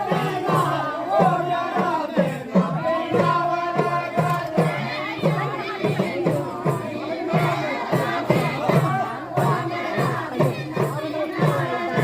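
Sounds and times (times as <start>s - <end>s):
group of people singing: 0.0s - 12.0s.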